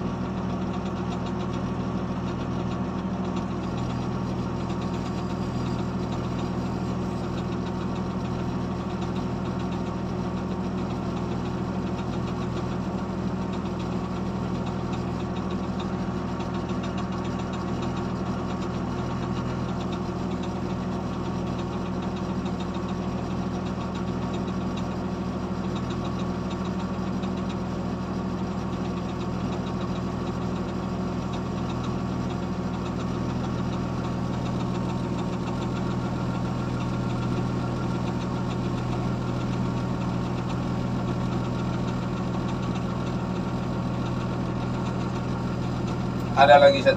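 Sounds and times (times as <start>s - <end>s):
diesel engine running steadily: 0.0s - 46.9s.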